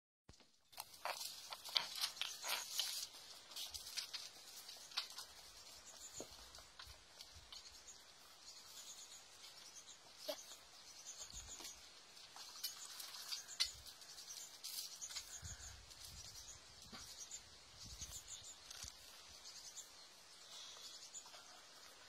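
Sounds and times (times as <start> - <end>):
faint high-pitched chirping: 0.6 - 22.0.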